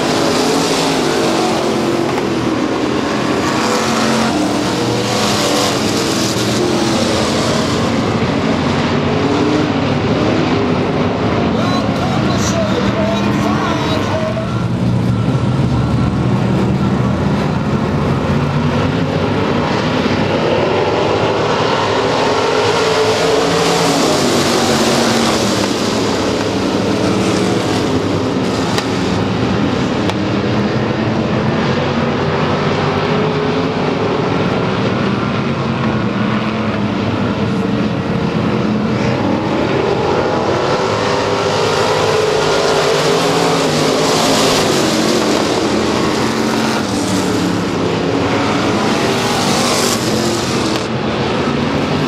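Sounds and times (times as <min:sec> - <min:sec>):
race car engines: 0:00.0 - 0:52.0.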